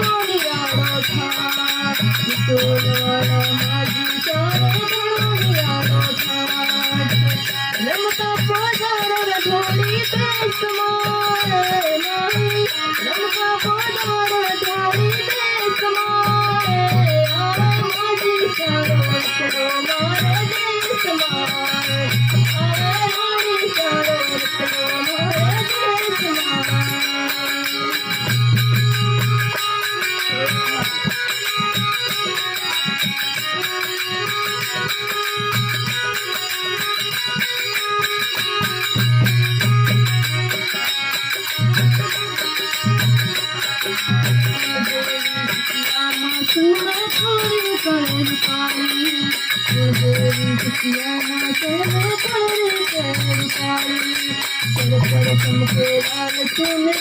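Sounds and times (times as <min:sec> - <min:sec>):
rattling percussion: 0:00.0 - 0:57.0.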